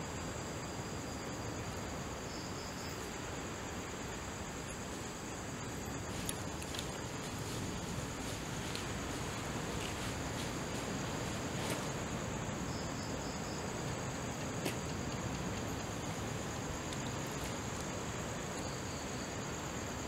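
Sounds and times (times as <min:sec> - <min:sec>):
crickets chirring: 0:00.0 - 0:20.0
faint hiss: 0:00.0 - 0:20.0.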